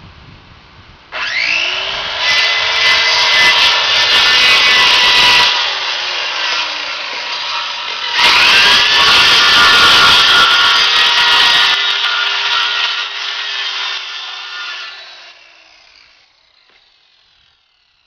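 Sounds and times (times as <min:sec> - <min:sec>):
power saw cutting plywood: 0:01.1 - 0:18.0.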